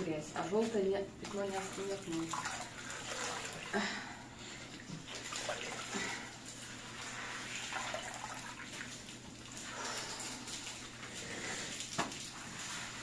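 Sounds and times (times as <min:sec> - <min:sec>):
water sloshing in plastic basin: 0:00.0 - 0:03.8, 0:04.7 - 0:13.0.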